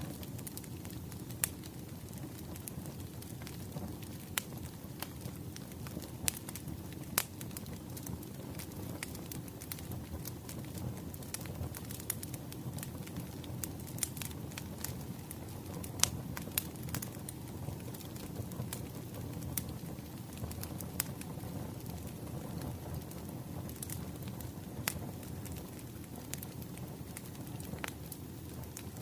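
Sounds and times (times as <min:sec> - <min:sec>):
burning logs rumbling: 0:00.0 - 0:29.0
wood fire crackling: 0:00.0 - 0:29.0.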